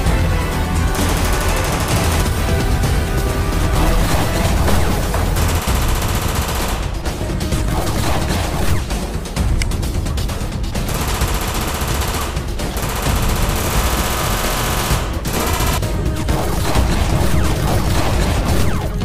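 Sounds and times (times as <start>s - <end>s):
background music: 0.0s - 19.0s
machine-gun fire bursts: 0.9s - 2.8s, 3.6s - 9.0s, 10.8s - 19.0s.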